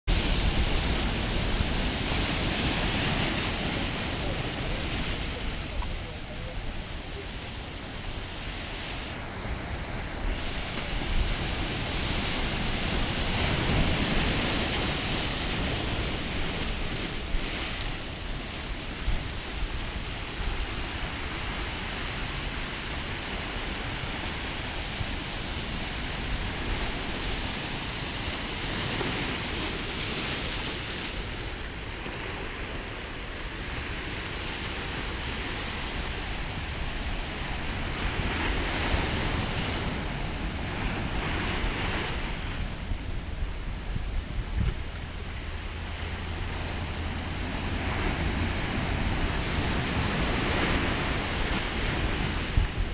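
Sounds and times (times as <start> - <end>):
sea waves breaking on rocks: 0.1 - 52.9.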